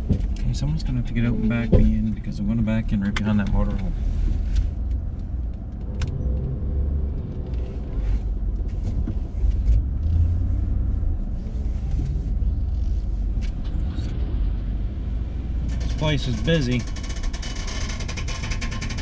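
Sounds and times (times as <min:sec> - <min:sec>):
pickup truck rumble from inside cab: 0:00.0 - 0:19.0.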